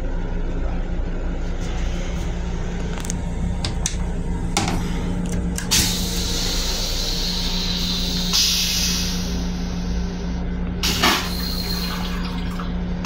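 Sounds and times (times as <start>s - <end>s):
railcar hum and rumble: 0.0s - 13.0s.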